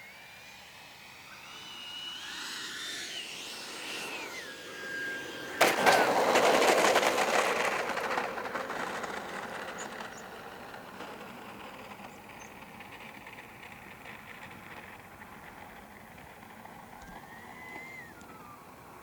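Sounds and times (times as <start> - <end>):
electric ducted fan whine: 0.0 - 19.0
loud rushing crackling noise: 2.8 - 18.9.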